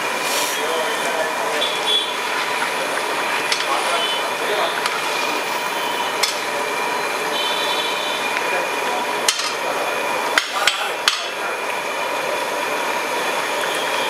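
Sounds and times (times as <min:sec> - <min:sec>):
rice simmering in a pot: 0:00.0 - 0:14.0.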